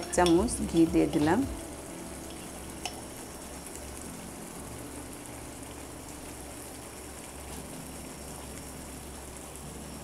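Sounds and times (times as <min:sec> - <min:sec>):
sauce simmering in a frying pan: 0:00.0 - 0:10.0.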